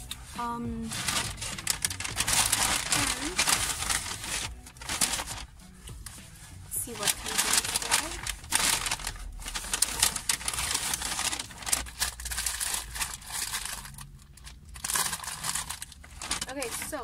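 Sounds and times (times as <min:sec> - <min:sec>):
paper bag crinkling: 0:00.8 - 0:17.0.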